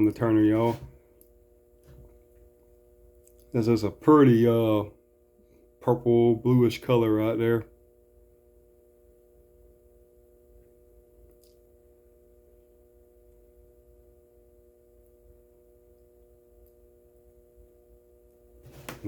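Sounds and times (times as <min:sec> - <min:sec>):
faint electric hum: 0:00.0 - 0:19.0.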